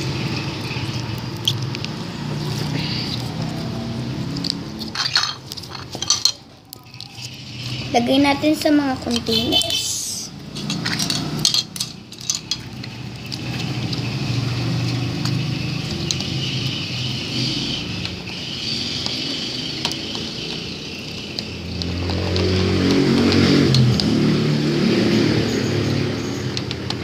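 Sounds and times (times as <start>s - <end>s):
steady engine hum: 0.0s - 27.0s.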